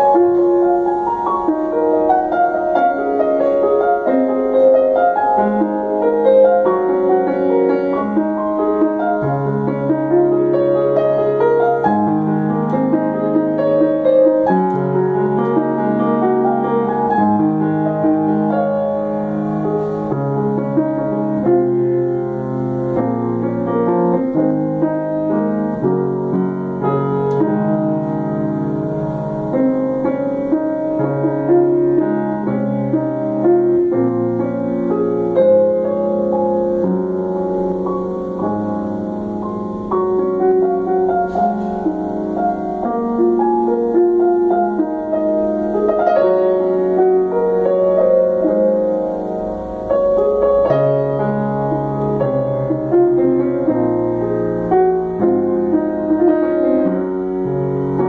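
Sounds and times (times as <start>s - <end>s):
solo piano improvisation: 0.0s - 58.0s.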